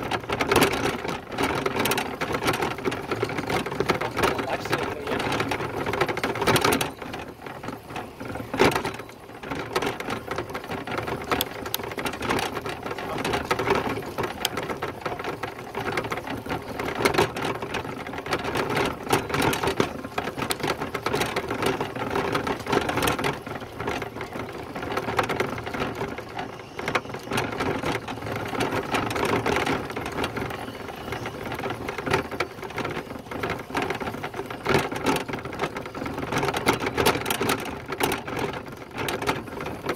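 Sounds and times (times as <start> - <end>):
bicycle mechanical rattling: 0.0 - 39.9
fast bicycle clicking: 0.0 - 39.9.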